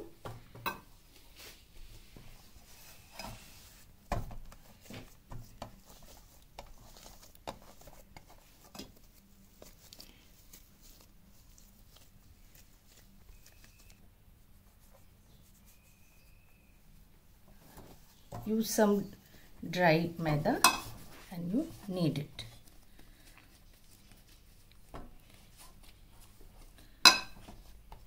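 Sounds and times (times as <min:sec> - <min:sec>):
dough kneaded by hand: 0:00.0 - 0:28.0.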